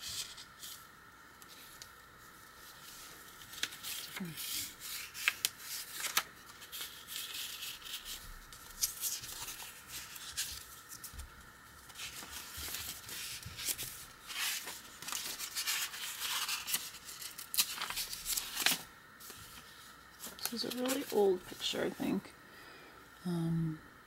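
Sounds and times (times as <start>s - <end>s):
paper pages rustling: 0.0s - 0.8s, 1.4s - 21.9s
paper crinkling: 1.4s - 21.9s.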